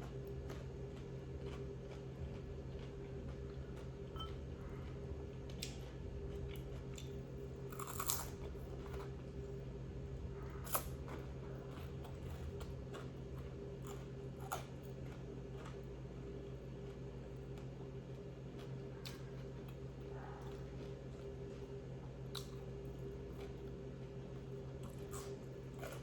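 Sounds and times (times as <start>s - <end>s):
person chewing crunchy food: 0.0s - 26.0s
steady low hum: 0.0s - 26.0s.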